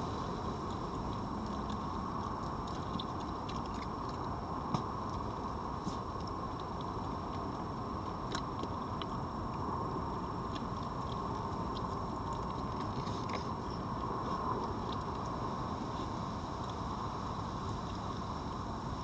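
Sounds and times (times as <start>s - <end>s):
steady background hiss: 0.0s - 19.0s
fox crunching food: 0.1s - 18.6s.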